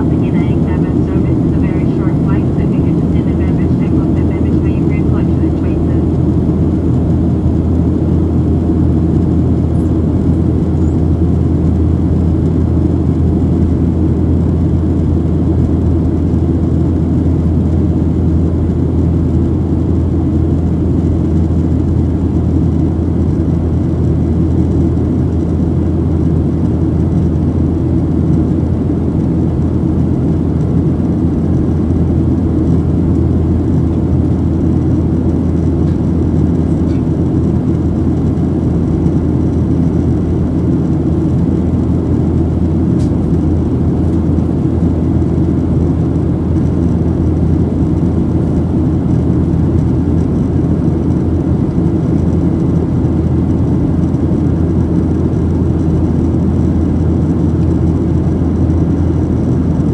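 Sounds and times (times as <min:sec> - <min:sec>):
airflow over fuselage: 0:00.0 - 0:59.9
airplane cabin jet engine drone: 0:00.0 - 0:59.9.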